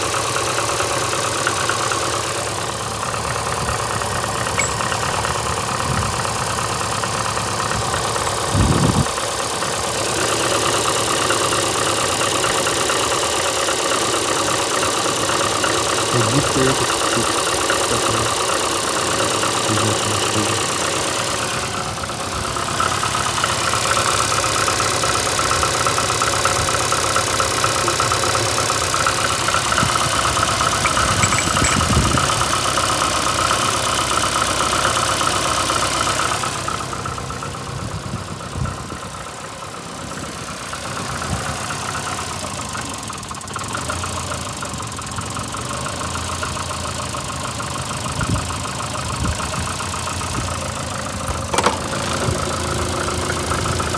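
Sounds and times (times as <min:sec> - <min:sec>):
car engine idling roughly: 0:00.0 - 0:53.9
engine knocking and rubbing: 0:00.0 - 0:53.9.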